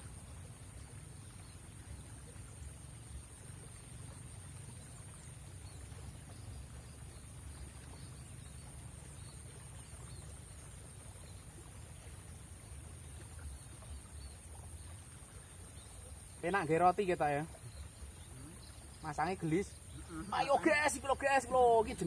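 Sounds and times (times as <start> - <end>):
faint chirps: 0.0 - 22.0
low rumble of river: 0.0 - 22.0.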